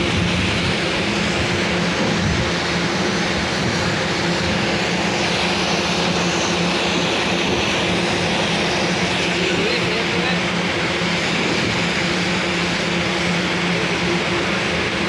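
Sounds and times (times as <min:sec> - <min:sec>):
pressure washer running: 0:00.0 - 0:15.0.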